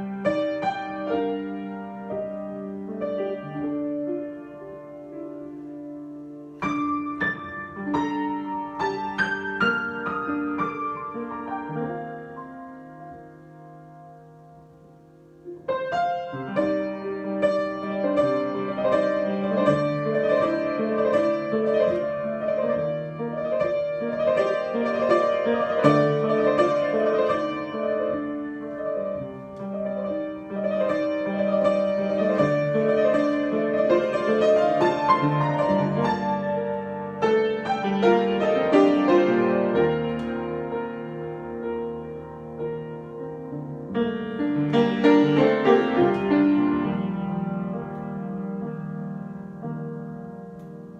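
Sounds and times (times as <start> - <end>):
solo piano: 0.0 - 50.9.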